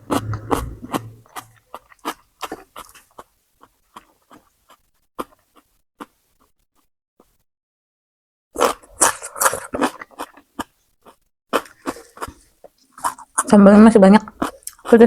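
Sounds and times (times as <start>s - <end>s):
crunchy chewing: 0.0s - 7.4s, 8.6s - 13.6s, 14.2s - 15.0s
soft wet chewing: 0.0s - 7.4s, 8.6s - 15.0s.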